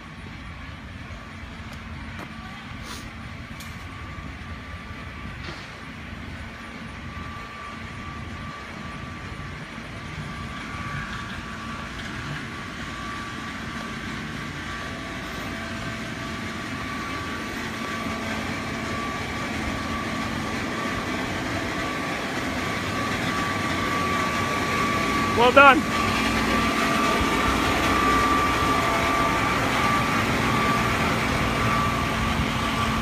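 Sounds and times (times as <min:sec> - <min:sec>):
faint high whine: 0:00.0 - 0:33.0
moving vehicle rumble: 0:00.0 - 0:33.0.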